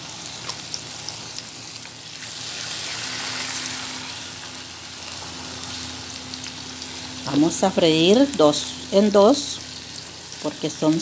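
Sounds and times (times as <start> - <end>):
steaks sizzling in oil: 0.0 - 11.0.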